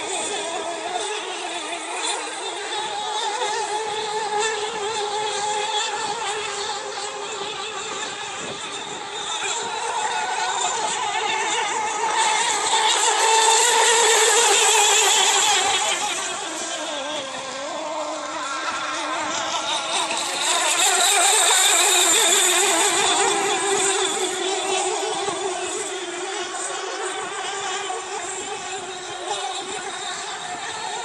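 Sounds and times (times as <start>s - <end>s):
racing boat motor whine: 0.0s - 31.0s.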